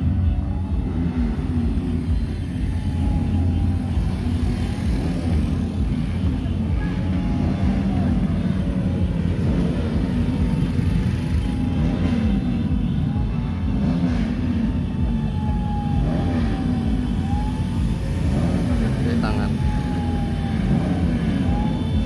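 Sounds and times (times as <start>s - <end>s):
motorcycle and car engines revving: 0.0s - 22.0s.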